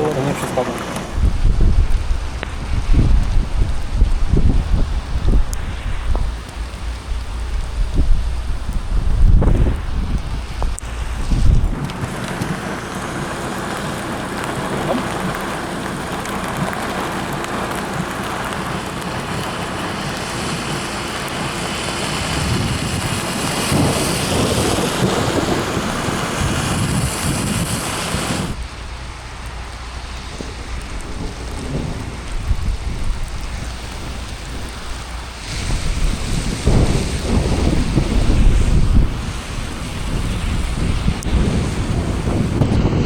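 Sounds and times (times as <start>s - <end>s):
low rolling thunder: 0.0s - 28.7s, 30.3s - 43.0s
steady rain: 0.0s - 43.0s
wind: 0.0s - 43.0s.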